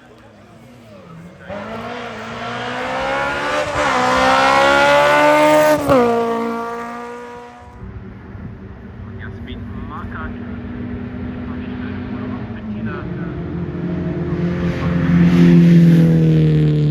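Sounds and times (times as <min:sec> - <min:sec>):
race car accelerating past: 0:00.2 - 0:16.9.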